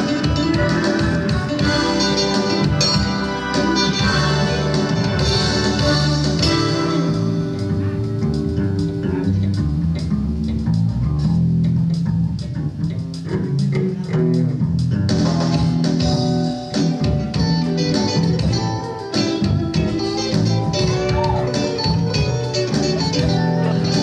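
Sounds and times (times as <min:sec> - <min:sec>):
bass guitar: 0:00.0 - 0:24.0
drum kit: 0:00.0 - 0:24.0
plucked guitar: 0:00.0 - 0:24.0.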